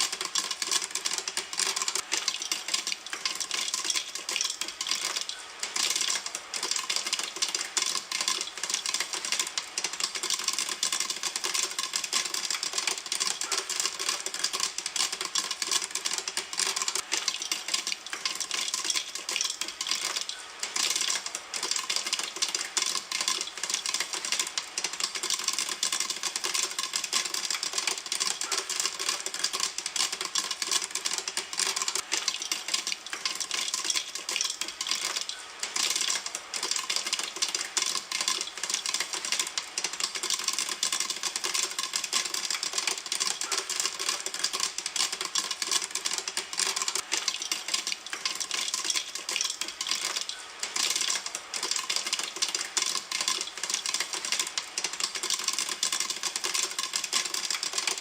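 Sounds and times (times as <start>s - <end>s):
popcorn popping in a pan: 0.0s - 58.0s.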